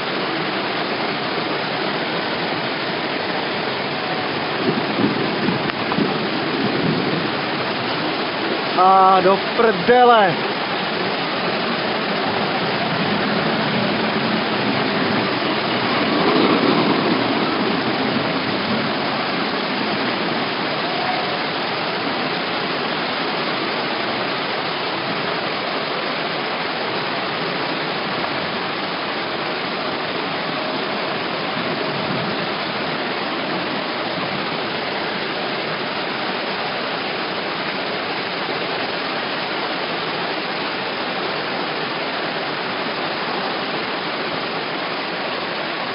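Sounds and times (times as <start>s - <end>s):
floodwater rushing along street: 0.0s - 45.9s.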